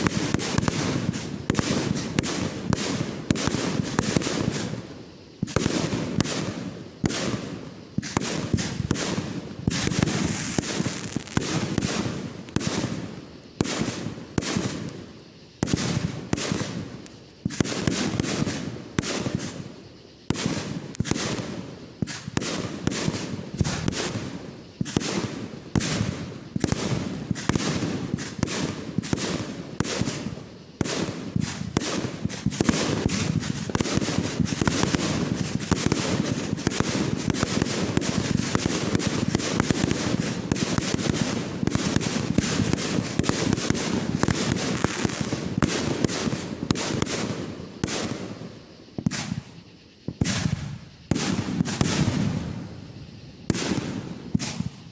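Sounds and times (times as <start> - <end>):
fireworks bangs: 0.0 - 54.9.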